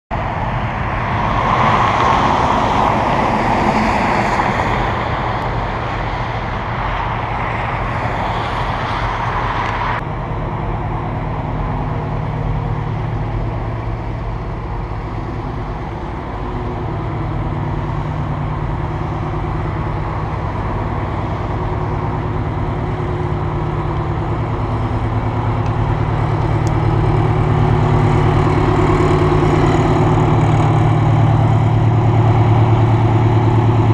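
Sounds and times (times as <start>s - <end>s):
bus diesel engine running: 0.1s - 33.9s
road noise: 0.1s - 33.9s
rushing wind: 0.1s - 33.9s.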